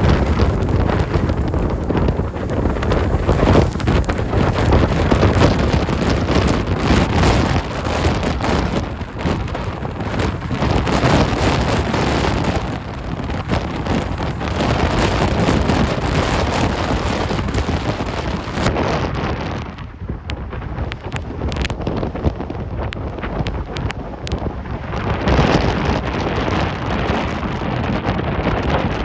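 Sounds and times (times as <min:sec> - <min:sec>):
gusting wind on microphone: 0:00.0 - 0:29.0.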